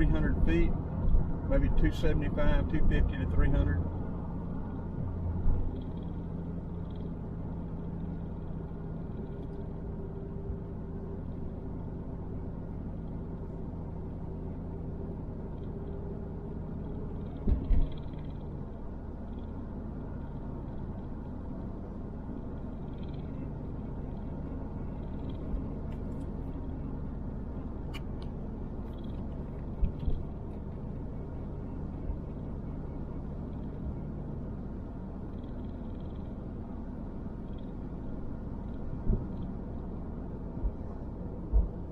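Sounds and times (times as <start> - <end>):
car engine and road hum: 0.0 - 41.9.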